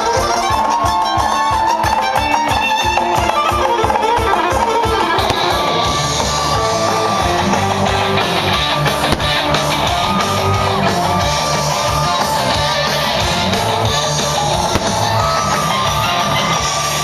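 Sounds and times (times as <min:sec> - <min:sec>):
guitar-led music with bass: 0:00.0 - 0:17.0.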